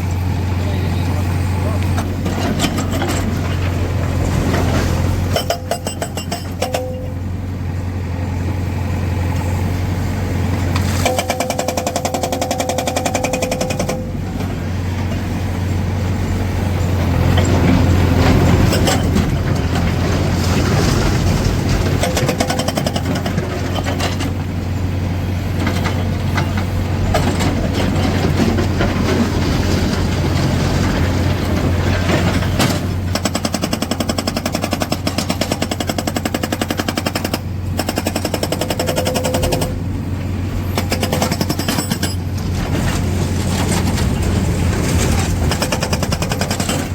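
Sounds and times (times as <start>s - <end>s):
diesel engine running: 0.0s - 46.9s
hydraulic rock breaker hammering stone: 1.8s - 7.3s, 10.6s - 15.3s, 17.0s - 24.4s, 25.6s - 39.9s, 40.6s - 46.9s.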